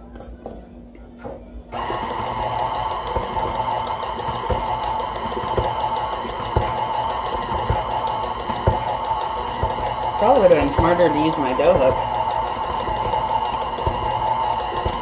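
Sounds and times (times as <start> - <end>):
stand mixer running: 1.7 - 15.0
dull thumps from mixer: 1.8 - 15.0
mixer ticking: 1.8 - 15.0.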